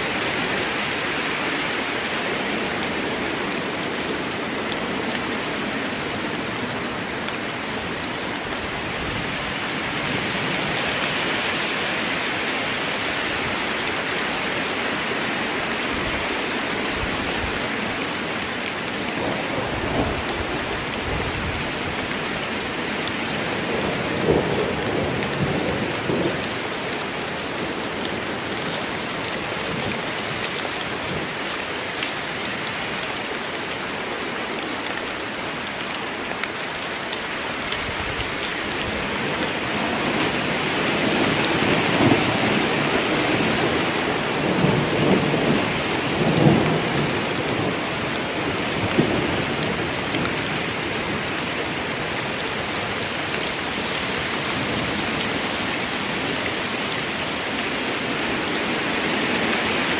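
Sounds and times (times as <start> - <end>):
rain falling on woodland: 0.0 - 59.9
rain spatters: 0.0 - 59.9.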